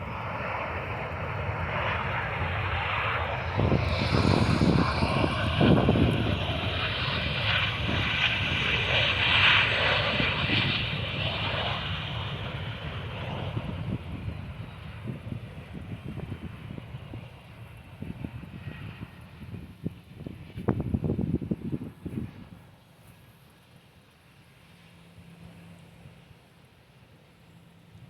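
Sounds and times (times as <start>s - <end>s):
jet airliner landing: 0.0s - 28.0s.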